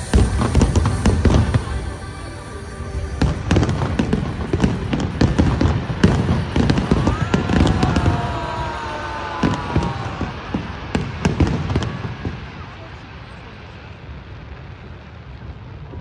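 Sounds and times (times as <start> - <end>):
whistling firework tones: 0.0 - 15.4
fireworks bangs and crackling: 0.0 - 16.0.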